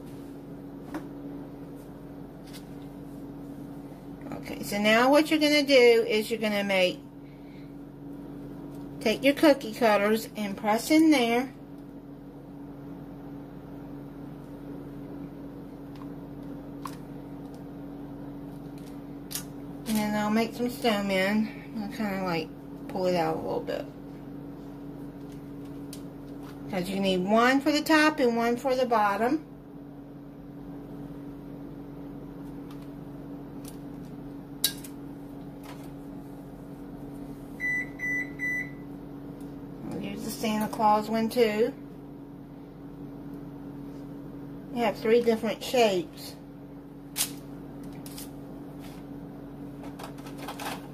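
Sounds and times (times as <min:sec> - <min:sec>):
motor or fan humming: 0:00.0 - 0:50.9.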